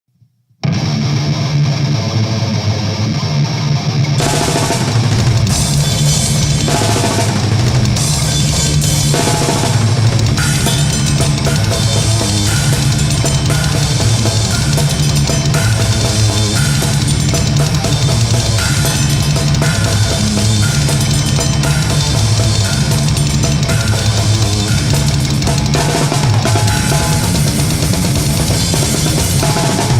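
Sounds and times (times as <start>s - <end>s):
distorted guitar riff: 0.6s - 29.9s
metal band playing: 0.6s - 29.9s
fast bass drum: 4.2s - 29.9s.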